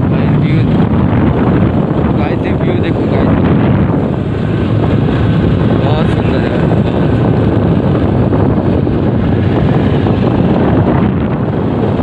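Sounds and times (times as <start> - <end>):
vehicle running noise: 0.0 - 12.0
wind rushing on microphone: 0.0 - 12.0.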